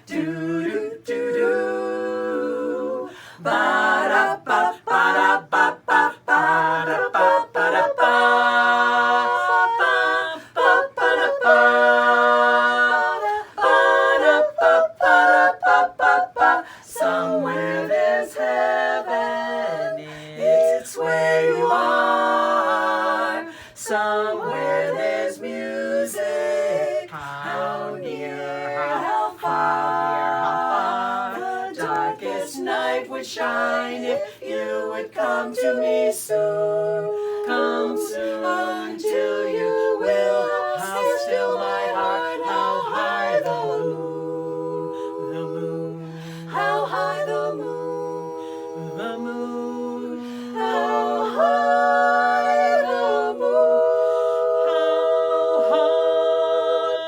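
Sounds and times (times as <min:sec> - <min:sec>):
women singing a cappella harmony: 0:00.0 - 0:57.0.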